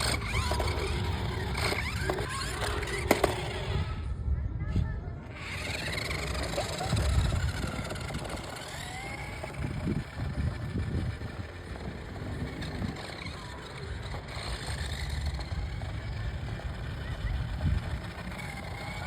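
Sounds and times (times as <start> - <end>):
toy truck motor whining: 0.0 - 4.1, 5.2 - 19.0.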